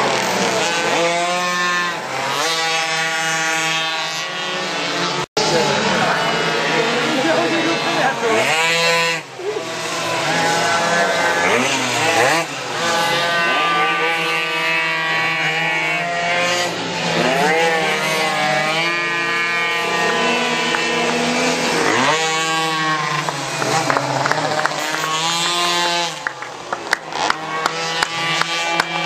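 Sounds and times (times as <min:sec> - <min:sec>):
small two-stroke engines screaming: 0:00.0 - 0:29.0.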